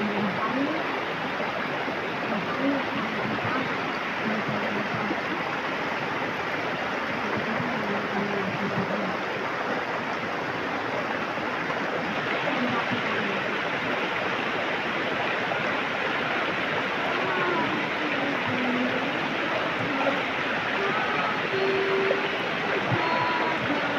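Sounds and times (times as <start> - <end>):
river rushing over stones: 0.0 - 23.9.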